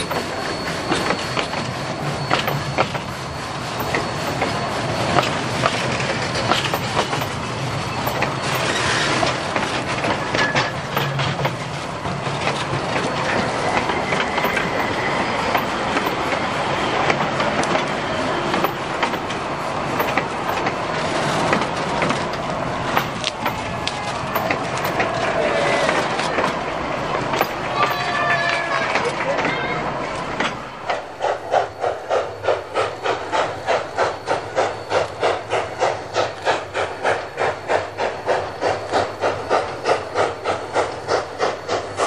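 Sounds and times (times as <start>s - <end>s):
train wheels clattering over rail joints: 0.0s - 42.0s.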